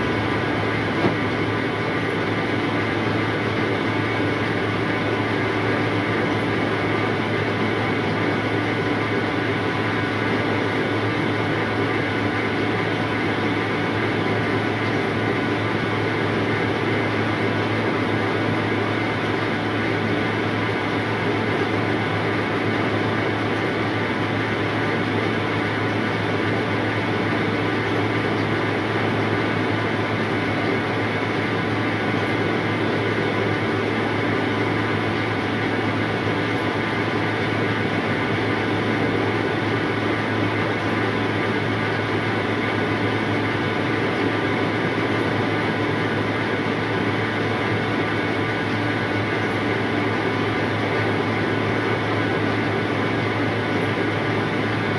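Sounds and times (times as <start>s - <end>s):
seed-sorting machine droning: 0.0s - 54.9s.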